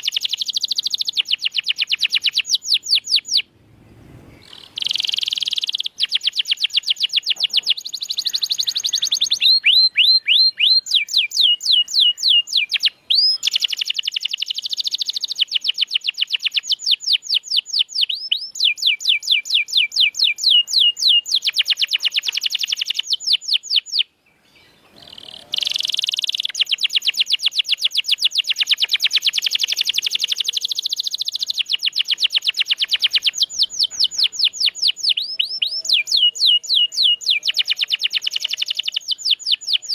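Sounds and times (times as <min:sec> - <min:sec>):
canary singing trills: 0:00.0 - 0:03.5, 0:04.3 - 0:39.9.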